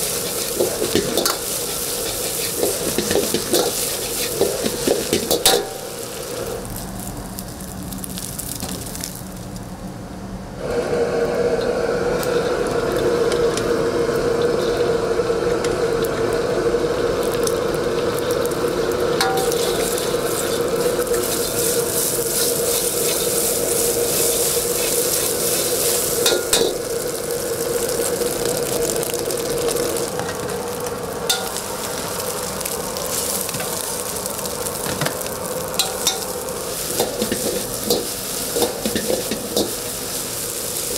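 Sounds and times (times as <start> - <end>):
rice sizzling in a wok: 0.0 - 9.9, 10.5 - 40.9.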